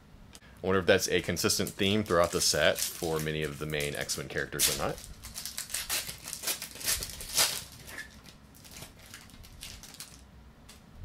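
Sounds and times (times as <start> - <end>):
plastic wrapper crinkling: 1.4 - 10.3.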